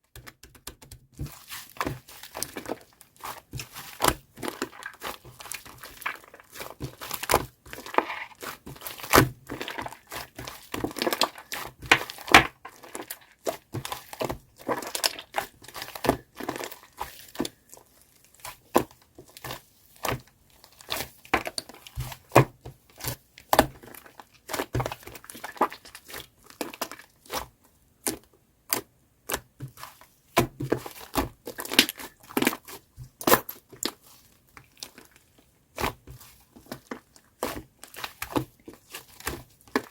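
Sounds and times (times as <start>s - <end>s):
slime squished by hand: 0.2s - 39.9s.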